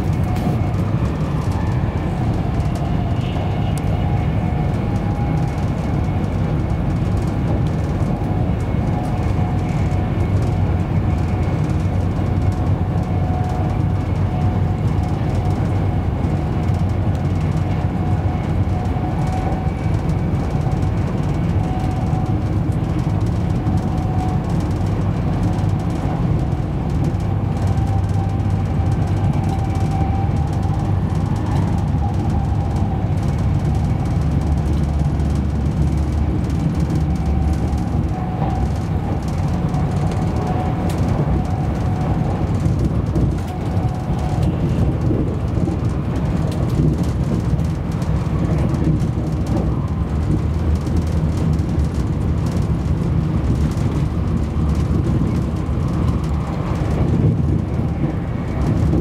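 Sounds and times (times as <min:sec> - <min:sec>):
faint train whine: 0:00.0 - 0:59.0
wheels rumbling on track: 0:00.0 - 0:59.0.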